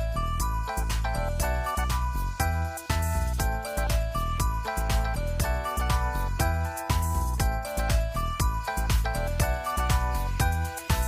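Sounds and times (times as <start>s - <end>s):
background music with beat: 0.0s - 11.0s
bell-like melody notes: 0.0s - 11.0s
strong bass: 0.0s - 11.0s.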